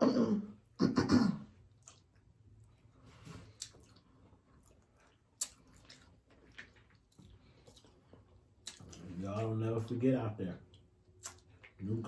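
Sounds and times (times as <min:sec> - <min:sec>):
people chewing with lip smacks: 0:01.5 - 0:12.0.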